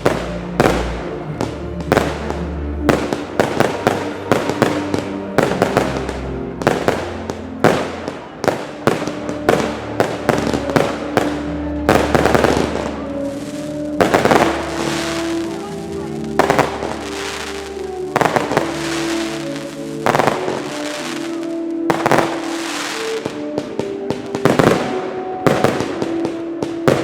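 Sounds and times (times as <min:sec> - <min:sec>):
fireworks bursting: 0:00.0 - 0:27.0
music playing: 0:00.0 - 0:27.0.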